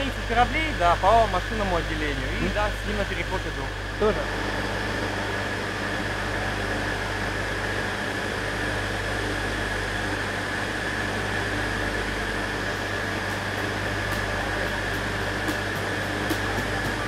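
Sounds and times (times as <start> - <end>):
low machinery hum: 0.0 - 17.0
steady high whine: 0.0 - 17.0
ventilation rush: 0.0 - 17.0.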